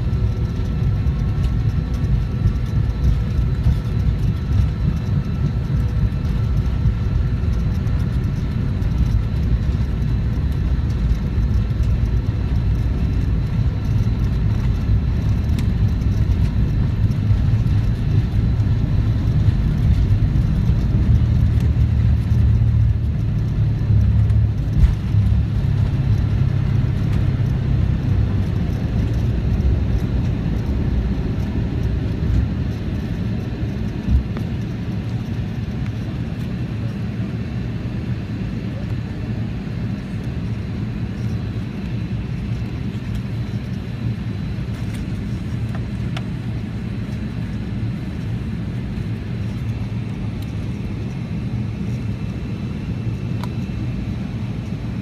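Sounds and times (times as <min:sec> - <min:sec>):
jet engines at takeoff thrust: 0:00.0 - 0:55.0
wheels rumbling on runway: 0:00.0 - 0:55.0.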